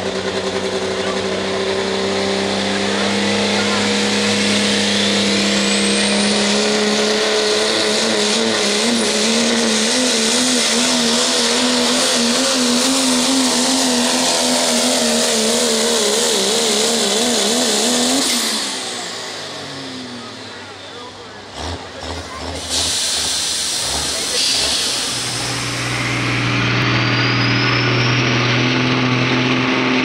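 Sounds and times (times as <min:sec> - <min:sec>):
diesel pickup engine at full throttle: 0:00.0 - 0:30.0.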